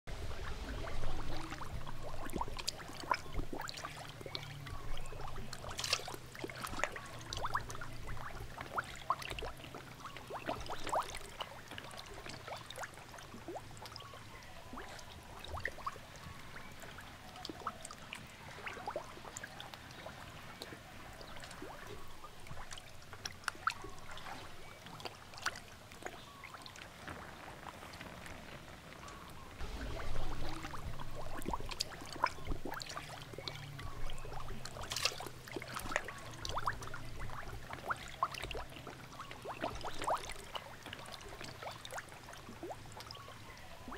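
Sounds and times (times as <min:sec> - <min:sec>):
low steady hum: 0:00.1 - 0:43.9
water trickling and dripping: 0:00.1 - 0:43.9.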